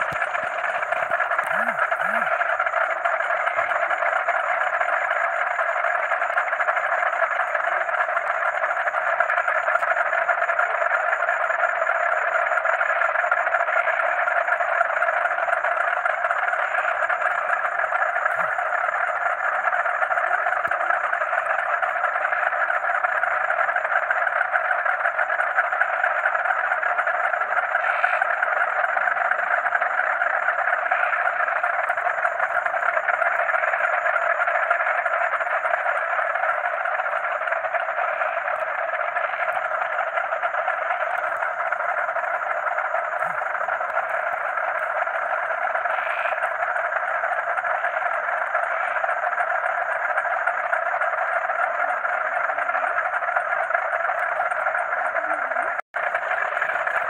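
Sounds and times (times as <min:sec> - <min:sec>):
crickets trilling: 0:00.0 - 0:57.0
frogs calling: 0:00.0 - 0:57.0.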